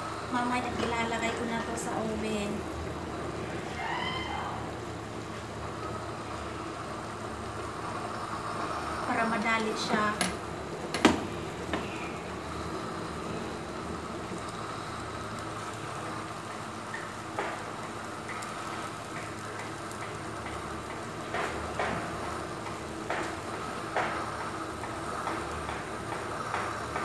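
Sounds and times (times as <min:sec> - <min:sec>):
food bubbling and hissing: 0:00.0 - 0:27.0.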